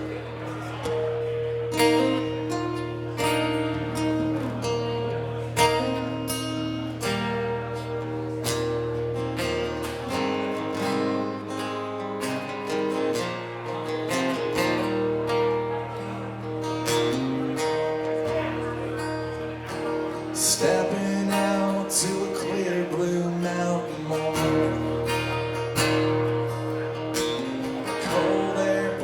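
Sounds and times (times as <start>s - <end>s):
acoustic guitars strumming: 0.0s - 29.0s.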